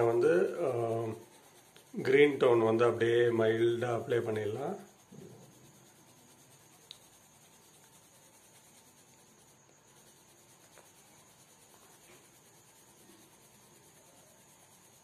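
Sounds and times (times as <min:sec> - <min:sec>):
pencil scratching on paper: 0:00.0 - 0:15.0
steady low hiss: 0:00.0 - 0:15.0.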